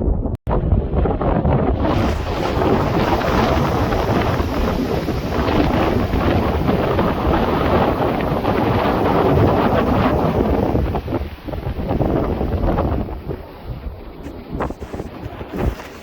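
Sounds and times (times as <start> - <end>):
wind buffeting microphone: 0.0 - 16.0
heavy surf: 0.6 - 16.0.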